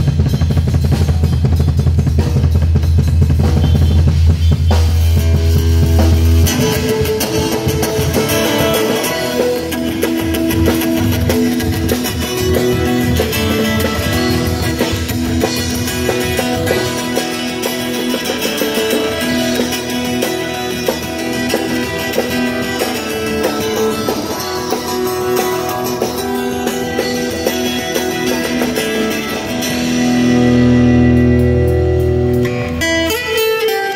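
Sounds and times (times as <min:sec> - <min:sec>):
live band guitars playing: 0:00.0 - 0:33.9.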